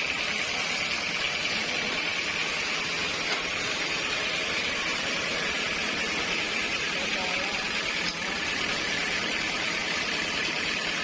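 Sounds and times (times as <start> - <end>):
sawmill machinery running: 0.0 - 11.0.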